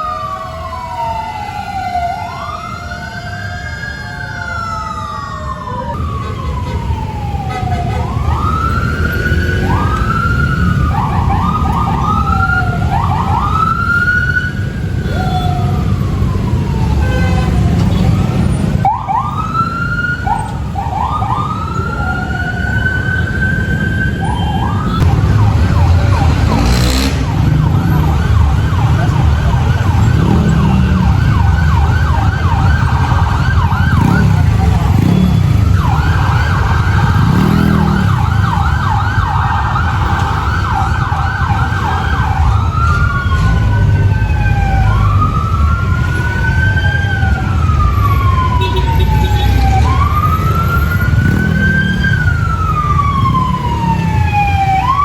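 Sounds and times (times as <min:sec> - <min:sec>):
fire truck sirens wailing: 0:00.0 - 0:55.0
truck engine rumble: 0:04.7 - 0:55.0.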